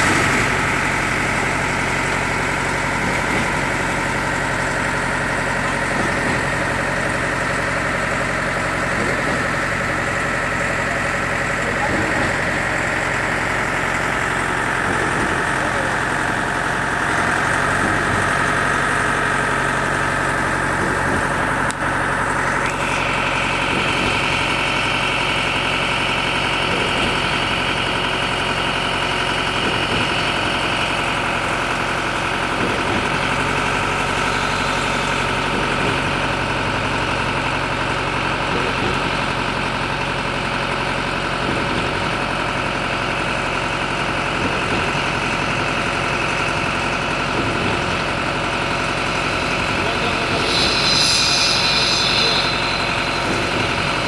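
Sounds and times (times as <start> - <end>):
diesel engine running: 0.0 - 54.0
pump whining tone: 0.0 - 54.0.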